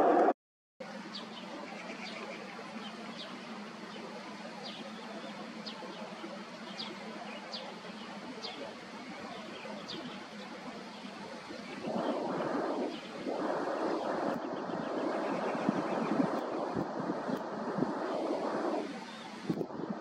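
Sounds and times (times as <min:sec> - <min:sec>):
small birds chirping: 0:01.0 - 0:17.5, 0:18.1 - 0:20.0.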